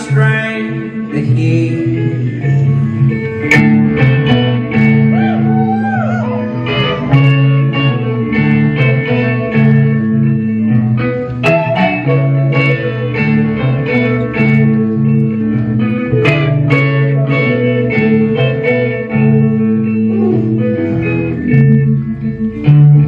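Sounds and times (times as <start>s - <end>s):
bass line: 0.0s - 23.0s
guitar lead with sliding notes: 0.0s - 23.0s
steady rhythm: 0.0s - 23.0s.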